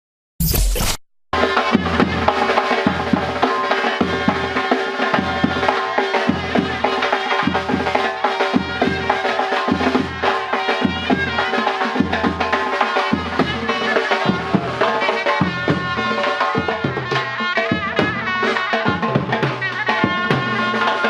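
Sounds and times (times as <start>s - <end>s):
drums beating a rhythm: 1.3s - 21.0s.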